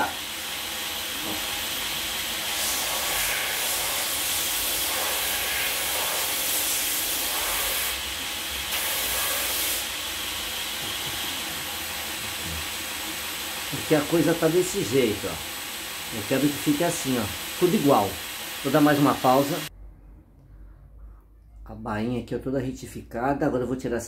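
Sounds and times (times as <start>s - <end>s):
belt sander hissing: 0.0s - 19.7s.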